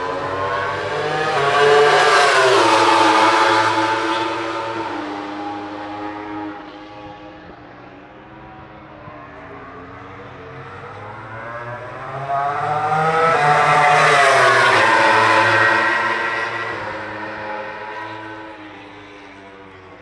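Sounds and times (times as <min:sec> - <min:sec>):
racing motorcycles passing: 0:00.0 - 0:07.3, 0:09.7 - 0:20.0.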